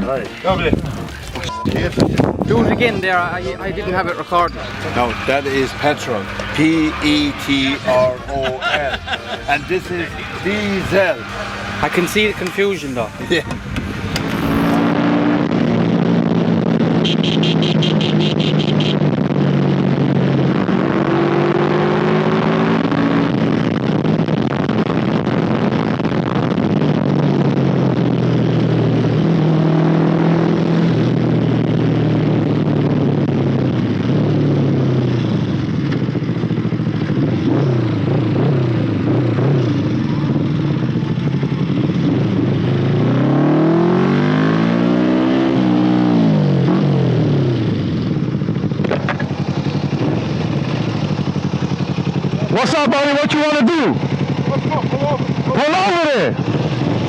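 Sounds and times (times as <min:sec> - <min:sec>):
motorcycle engine accelerating: 0:00.0 - 0:57.0
wind and road noise: 0:00.0 - 0:57.0.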